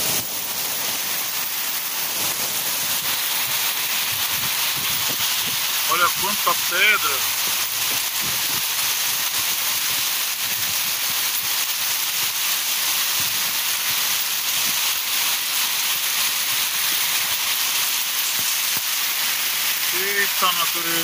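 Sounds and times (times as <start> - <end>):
hail and rain hissing: 0.0 - 21.0
hailstones knocking on car: 2.2 - 21.0.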